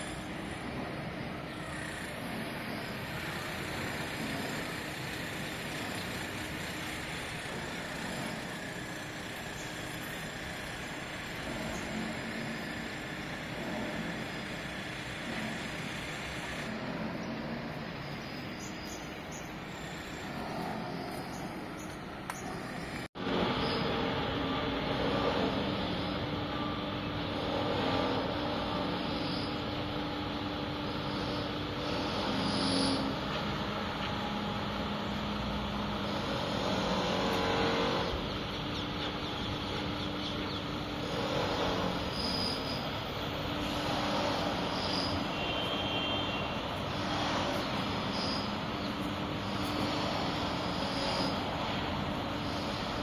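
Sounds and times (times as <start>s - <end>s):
distant traffic hum: 0.0s - 53.0s.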